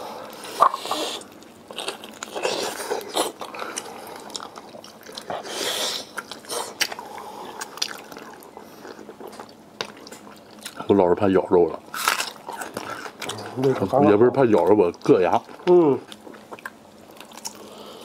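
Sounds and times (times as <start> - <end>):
biting and chewing: 0.2 - 10.9, 11.8 - 18.0.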